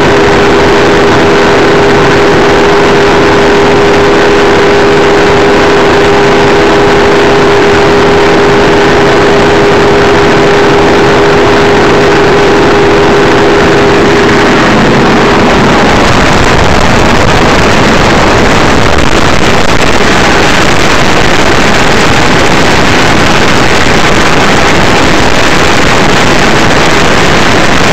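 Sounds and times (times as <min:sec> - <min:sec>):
boat engine rush: 0:00.0 - 0:27.9
steady engine hum: 0:00.0 - 0:27.9.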